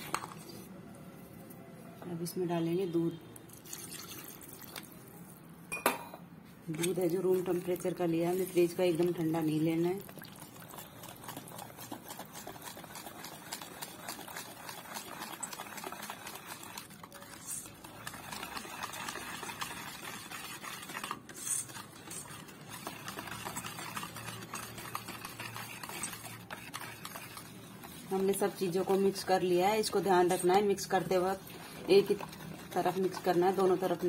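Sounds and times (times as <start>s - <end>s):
whisk stirring batter in steel bowl: 6.7s - 34.0s.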